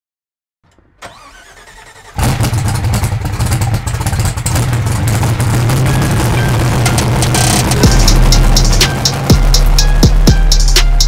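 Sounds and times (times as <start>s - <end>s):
car engine starting and rumbling: 0.7s - 11.0s.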